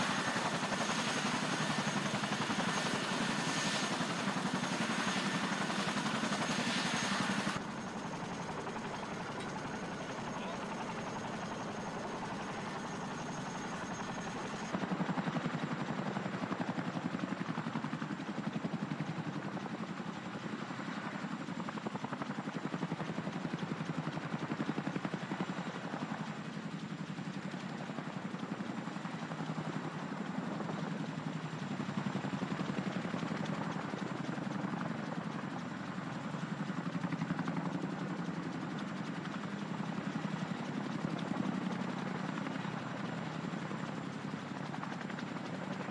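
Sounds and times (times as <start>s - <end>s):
helicopter rotors beating: 0.0s - 20.3s, 24.5s - 45.9s.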